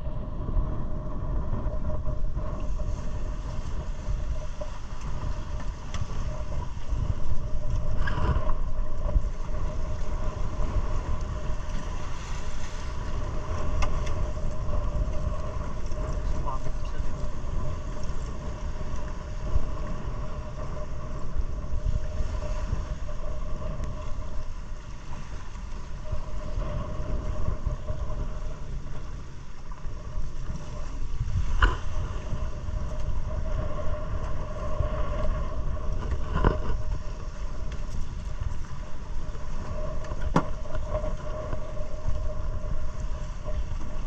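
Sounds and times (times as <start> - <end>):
wind buffeting on microphone: 0.0 - 44.0.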